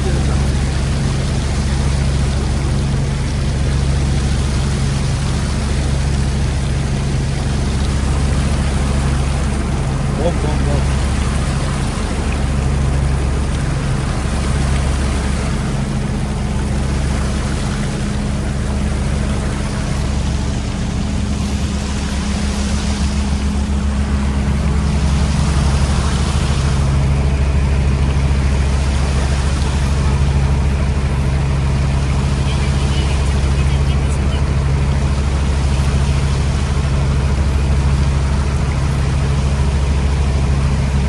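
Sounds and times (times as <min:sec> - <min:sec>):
boat engine humming: 0:00.0 - 0:41.0
rushing water wash: 0:00.0 - 0:41.0.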